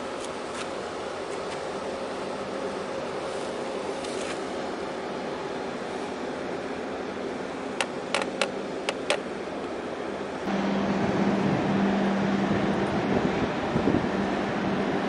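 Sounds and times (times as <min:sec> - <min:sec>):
ship engines droning: 0:00.0 - 0:15.0
wind and water noise: 0:00.0 - 0:15.0.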